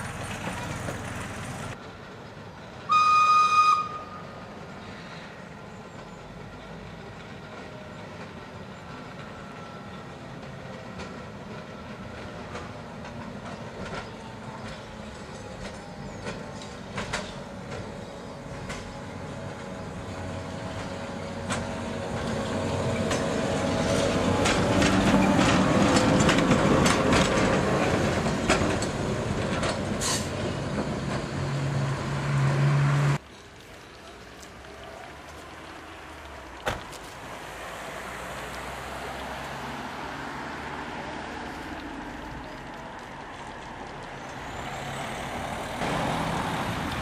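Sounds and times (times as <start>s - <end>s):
electric railcar passing: 0.0s - 47.0s
rail clicks: 5.8s - 31.9s, 33.2s - 47.0s.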